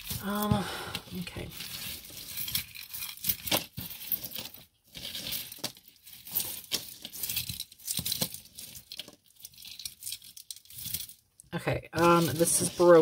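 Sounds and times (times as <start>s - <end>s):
jewelry chains clinking: 1.1s - 11.2s, 12.0s - 13.0s.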